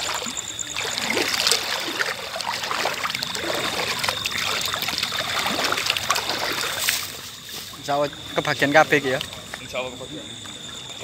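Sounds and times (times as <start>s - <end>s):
water splashing against boat: 0.0s - 11.0s.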